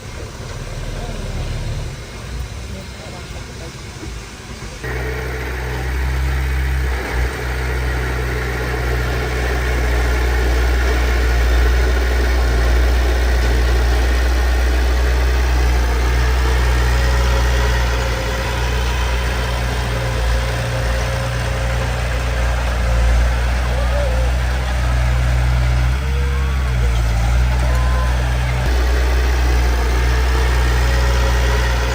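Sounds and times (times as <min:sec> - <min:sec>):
diesel engine rumbling: 0:00.0 - 0:31.9.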